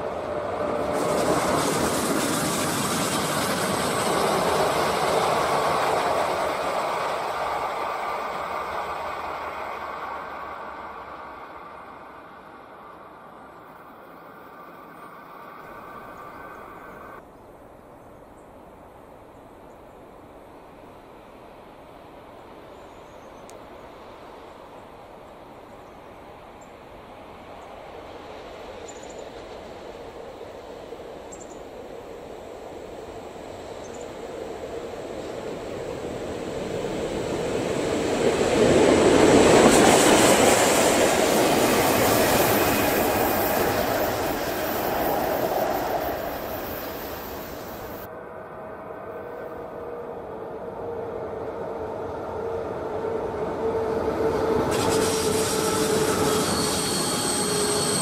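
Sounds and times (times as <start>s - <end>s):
electric locomotive passing: 0.0s - 17.2s, 20.2s - 58.0s
train wheels rumbling on rail: 0.0s - 17.2s, 26.3s - 48.7s, 49.4s - 58.0s.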